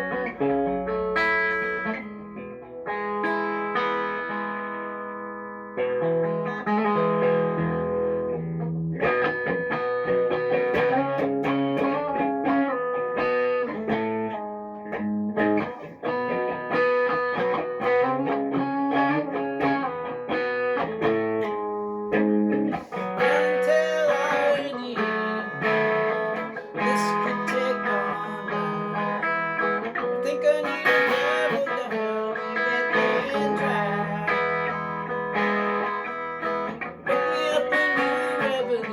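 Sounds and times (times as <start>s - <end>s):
guitar plucked notes and chords: 0.0s - 38.9s.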